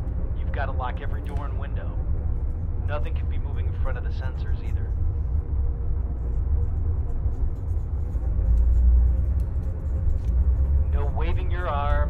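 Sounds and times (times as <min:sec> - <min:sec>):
deep steady rumble: 0:00.0 - 0:12.0.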